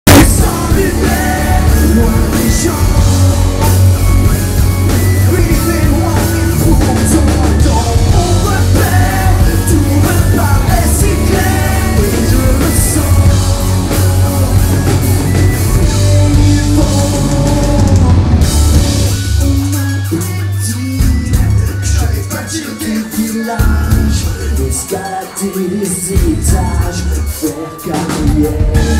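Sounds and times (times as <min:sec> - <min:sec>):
bass guitar: 0:00.0 - 0:28.9
heavy drums: 0:00.0 - 0:28.9
electric guitars: 0:00.1 - 0:28.9
man singing: 0:00.1 - 0:28.9.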